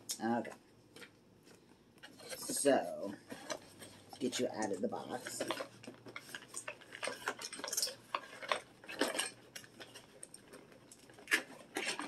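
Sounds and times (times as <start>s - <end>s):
toy packaging clicks and rustles: 2.0s - 12.0s.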